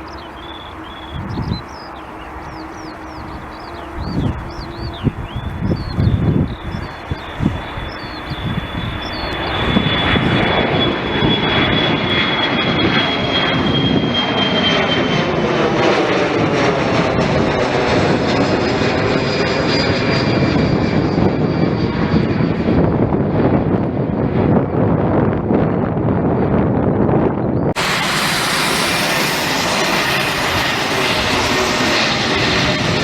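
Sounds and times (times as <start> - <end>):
aircraft flying past: 0.0 - 33.0.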